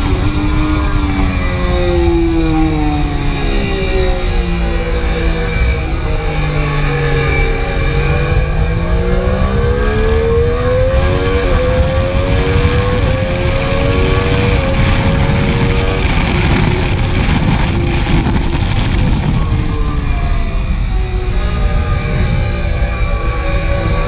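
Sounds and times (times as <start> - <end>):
motorcycle engine accelerating: 0.0 - 24.0
wind rush: 0.0 - 24.0.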